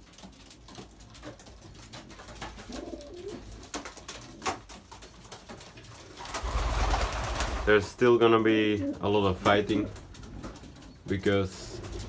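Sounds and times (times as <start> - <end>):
pigeons cooing softly: 0.0 - 7.0, 8.4 - 12.0.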